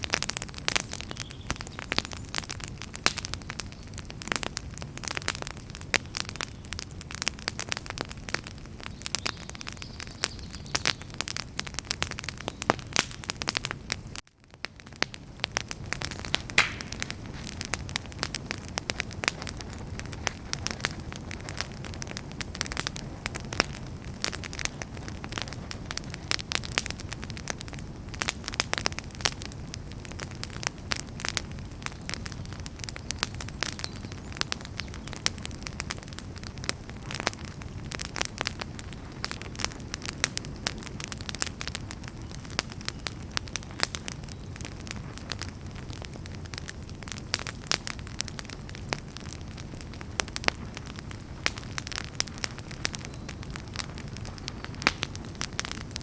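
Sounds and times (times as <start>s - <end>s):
campfire crackling and popping: 0.0s - 56.0s
low rumble of flame: 0.0s - 56.0s.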